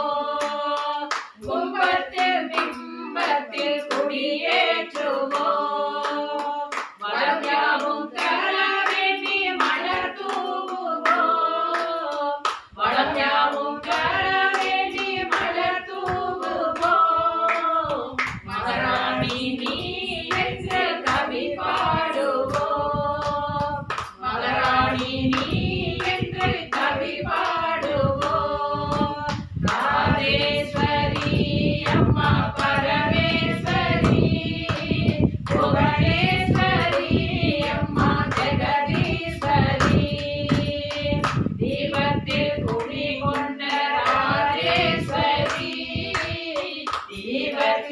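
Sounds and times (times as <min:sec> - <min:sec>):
women singing together: 0:00.0 - 0:47.9
hand claps: 0:00.4 - 0:47.9.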